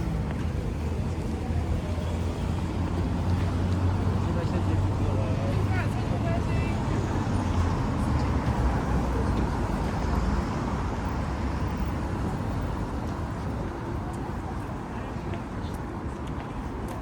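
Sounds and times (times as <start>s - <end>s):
motor traffic rumble: 0.0s - 17.0s.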